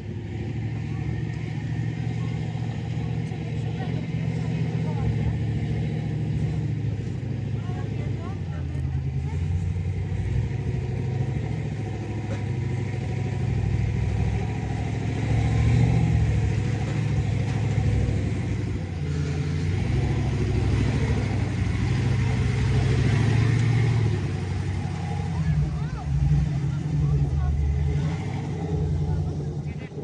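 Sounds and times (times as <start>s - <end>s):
truck engine running under load: 0.0s - 30.0s.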